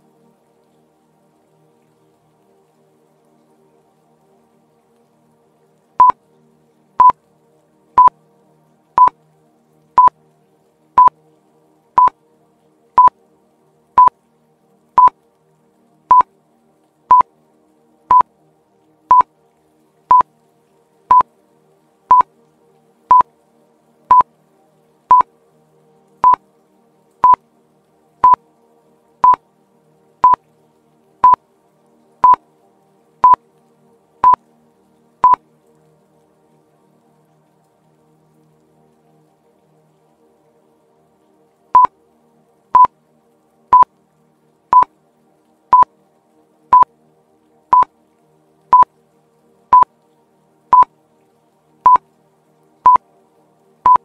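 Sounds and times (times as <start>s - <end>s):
faint background music: 0.0s - 54.0s.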